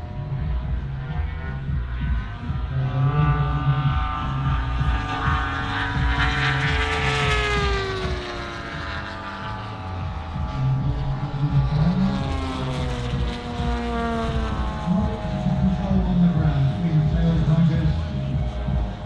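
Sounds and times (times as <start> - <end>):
model plane propeller drone: 0.0 - 19.0.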